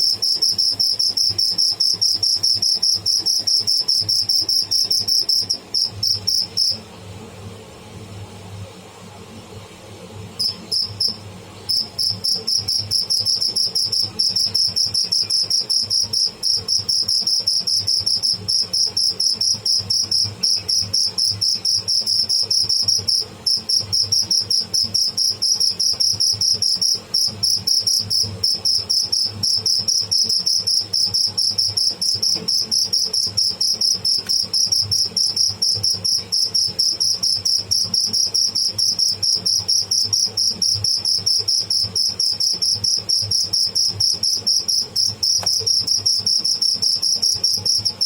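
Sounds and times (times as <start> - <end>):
cricket trilling: 0.0 - 6.8, 10.4 - 48.0.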